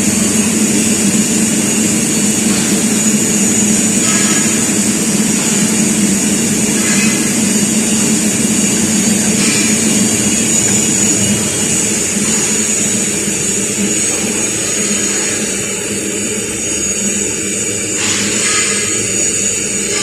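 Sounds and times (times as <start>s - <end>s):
drilling machine hum and whine: 0.0s - 20.0s.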